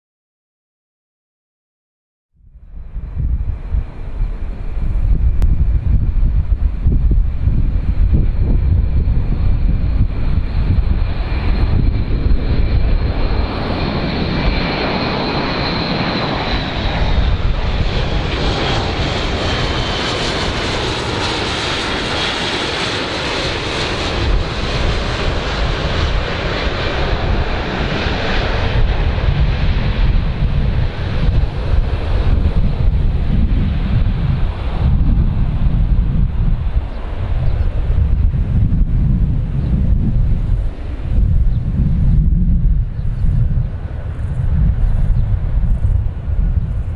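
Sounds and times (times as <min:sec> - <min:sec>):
turboprop aircraft flying past: 0:02.4 - 0:46.9.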